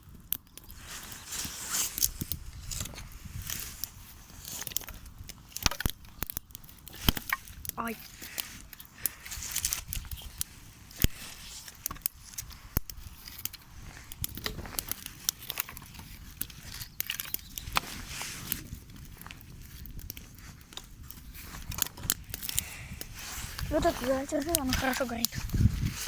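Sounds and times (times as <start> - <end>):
campfire twigs crackling: 0.0 - 26.0.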